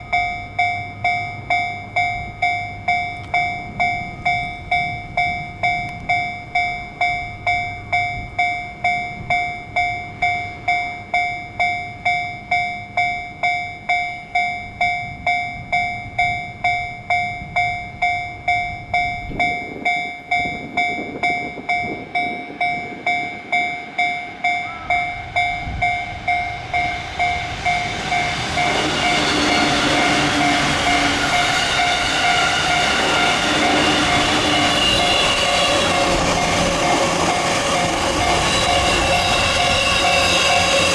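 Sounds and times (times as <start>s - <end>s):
approaching electric train: 0.0s - 40.9s
level crossing warning bell: 0.0s - 40.9s.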